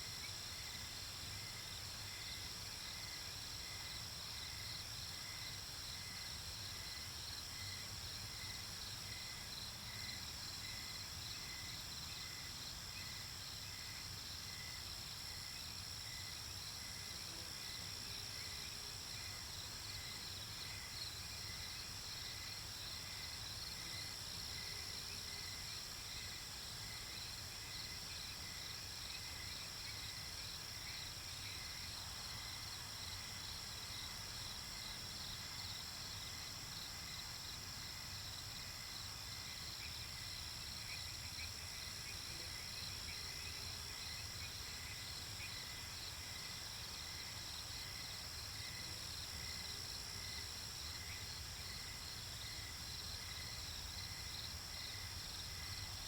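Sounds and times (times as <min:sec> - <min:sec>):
crickets chirping: 0:00.1 - 0:56.0.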